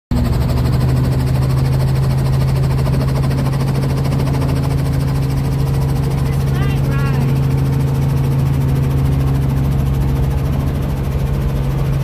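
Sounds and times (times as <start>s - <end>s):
helicopter engine and rotor drone: 0.1s - 12.0s.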